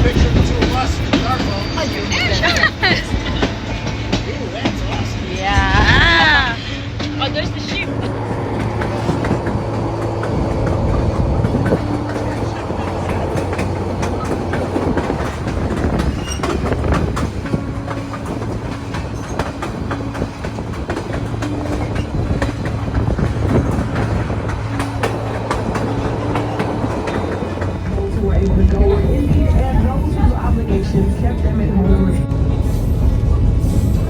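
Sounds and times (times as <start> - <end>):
train car rumbling on track: 0.0 - 34.0
wheels clacking over rail joints: 0.0 - 34.0.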